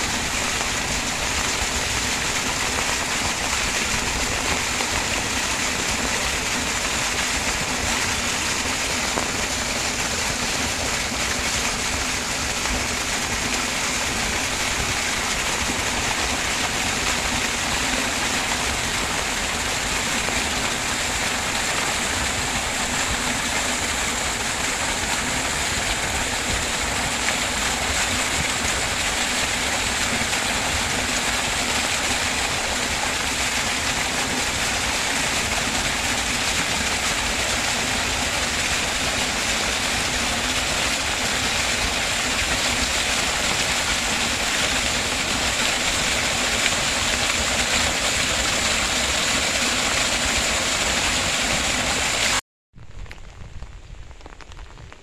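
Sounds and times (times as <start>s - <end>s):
water pouring down a channel: 0.0s - 52.4s
rain on dense vegetation: 0.0s - 55.0s.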